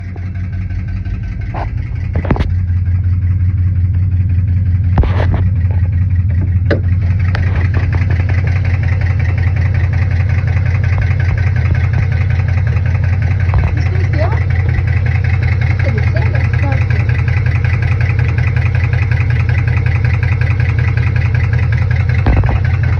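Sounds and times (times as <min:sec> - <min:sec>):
car engine idling with ticking knock: 0:00.0 - 0:22.9.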